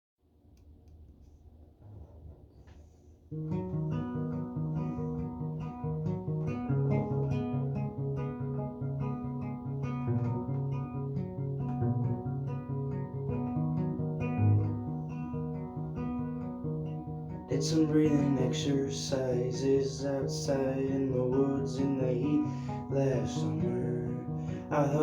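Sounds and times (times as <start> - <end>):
acoustic guitar picking: 3.3 - 25.0.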